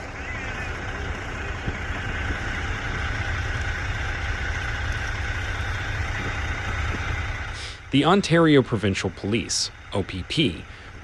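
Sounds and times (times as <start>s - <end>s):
engine running with low rumble: 0.0s - 11.0s.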